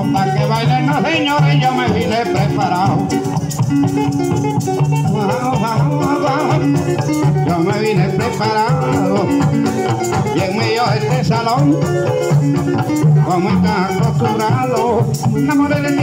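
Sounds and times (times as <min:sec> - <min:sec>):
man singing: 0:00.0 - 0:03.7, 0:04.8 - 0:16.0
maracas shaking: 0:00.0 - 0:16.0
harp playing folk music: 0:00.8 - 0:16.0.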